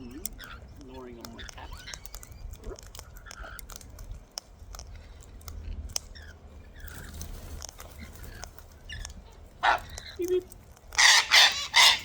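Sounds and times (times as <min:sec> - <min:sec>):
birds gnawing and crunching: 0:00.0 - 0:12.0.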